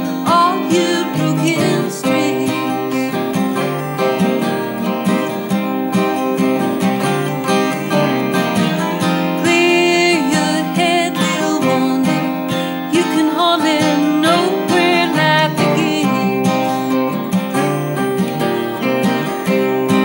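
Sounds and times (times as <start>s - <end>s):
acoustic guitar strumming: 0.0s - 20.0s
wavering melody line: 0.0s - 20.0s.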